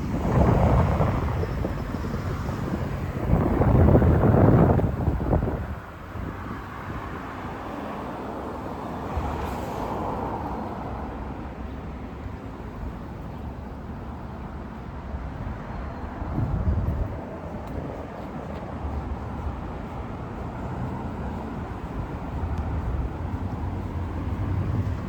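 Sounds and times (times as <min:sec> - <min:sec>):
cars passing: 0:00.0 - 0:25.0
steady traffic hum: 0:00.0 - 0:25.0.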